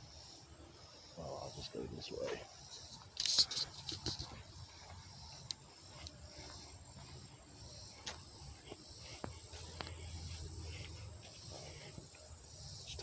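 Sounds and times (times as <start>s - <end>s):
faint insect chorus: 0.0s - 13.0s
footsteps on trail: 2.0s - 13.0s.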